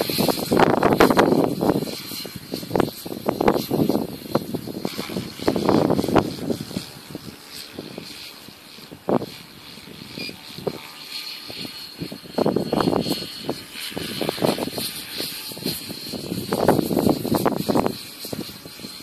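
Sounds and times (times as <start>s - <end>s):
distant aircraft engine droning: 0.0s - 19.0s.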